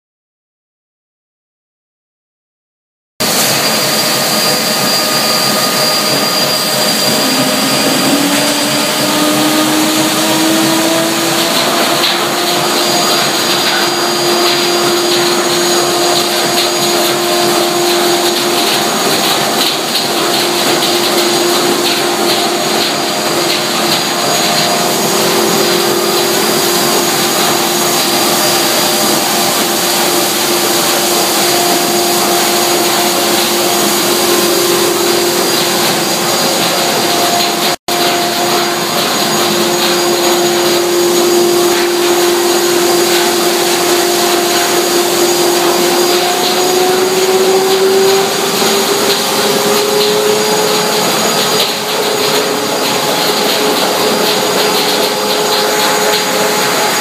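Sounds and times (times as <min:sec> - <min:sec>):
steady machine hum: 0:03.2 - 0:57.0
suction air rushing through hoses: 0:03.2 - 0:57.0.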